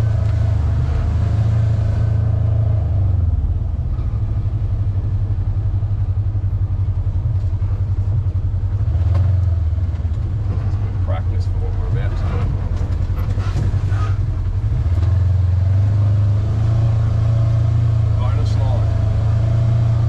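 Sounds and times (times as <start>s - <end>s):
buggy engine droning: 0.0s - 20.0s.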